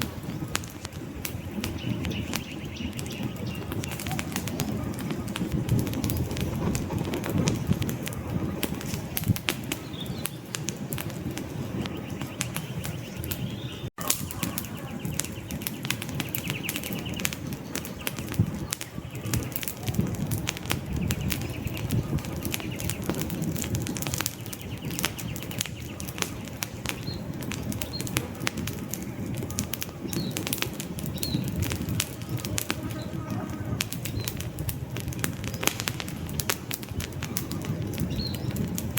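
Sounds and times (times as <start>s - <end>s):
campfire flames rushing: 0.0s - 38.9s
logs crackling and popping: 0.0s - 38.9s.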